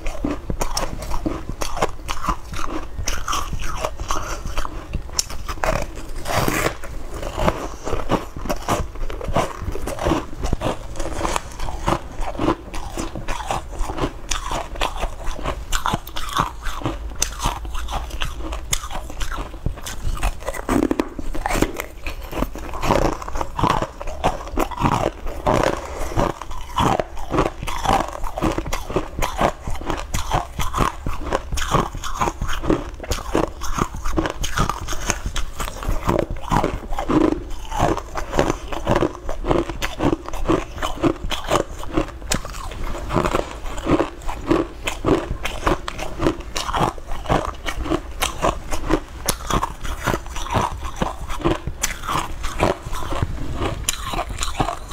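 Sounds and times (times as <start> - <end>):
biting and chewing crunchy cakes: 0.0 - 54.9.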